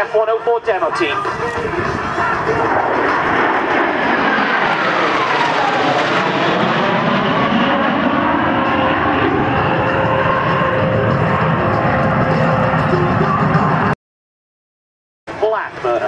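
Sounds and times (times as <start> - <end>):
jets flying past: 0.9 - 14.0.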